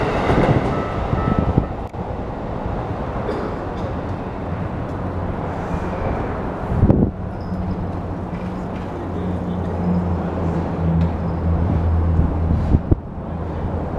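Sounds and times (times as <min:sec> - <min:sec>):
vehicle humming: 0:00.0 - 0:13.9.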